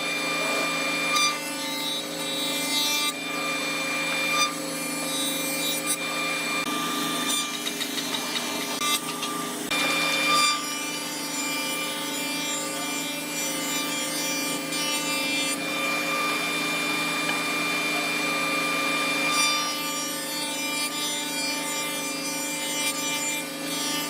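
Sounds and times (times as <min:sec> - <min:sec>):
wood rasping as it is cut: 0:00.0 - 0:24.0
woodworking machine motor hum: 0:00.0 - 0:24.0.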